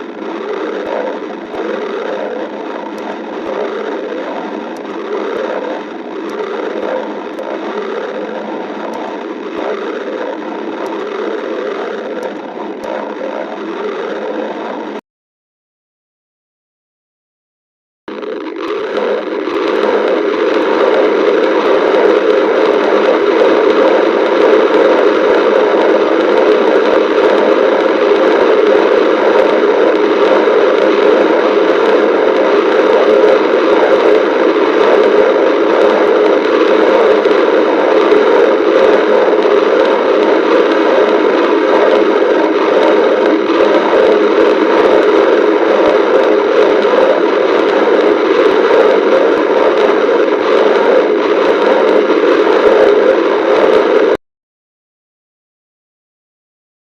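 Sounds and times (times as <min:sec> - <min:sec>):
stomach growling: 0:00.0 - 0:15.0, 0:18.1 - 0:54.2.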